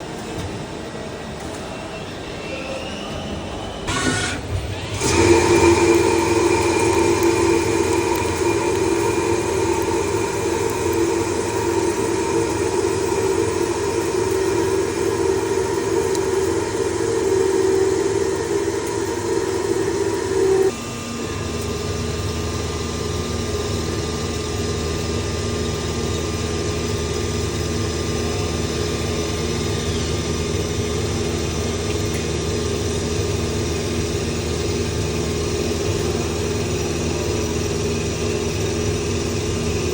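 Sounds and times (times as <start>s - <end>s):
lathe running: 3.9s - 39.9s.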